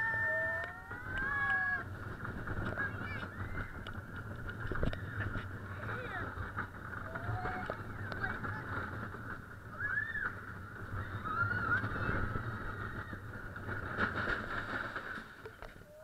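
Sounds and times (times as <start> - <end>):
roller coaster rumbling on track: 0.0 - 16.0.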